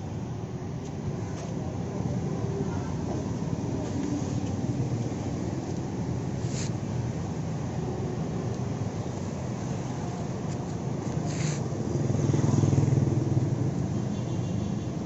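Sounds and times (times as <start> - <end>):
low outdoor rumble: 0.0 - 13.9.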